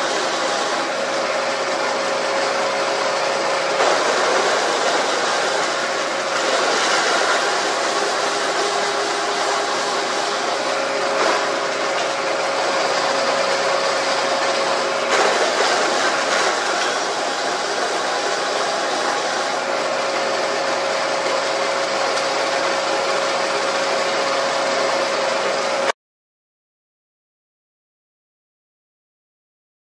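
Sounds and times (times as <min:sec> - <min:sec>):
drilling machine boring into wood: 0:00.0 - 0:25.9.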